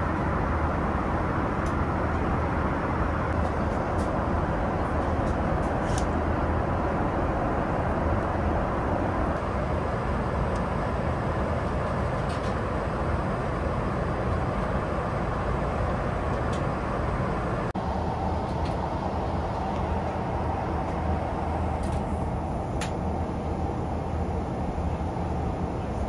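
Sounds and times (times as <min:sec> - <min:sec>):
airplane cabin noise: 0:00.0 - 0:26.0.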